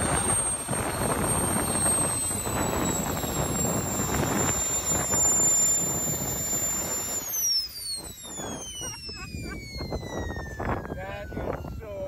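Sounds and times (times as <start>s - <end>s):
engine roar: 0.0s - 12.0s
turbine engine whine: 0.0s - 12.0s.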